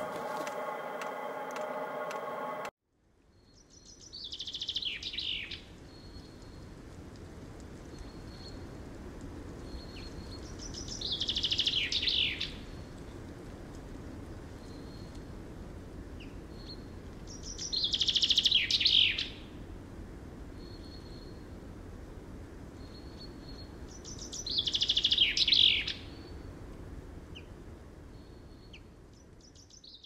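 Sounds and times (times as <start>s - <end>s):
low outdoor ambience rush: 0.0s - 3.3s, 4.0s - 29.8s.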